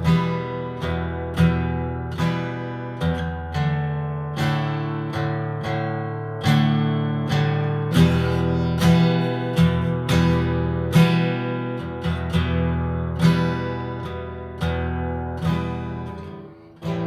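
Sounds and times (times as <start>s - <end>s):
acoustic guitar strummed: 0.0s - 17.0s.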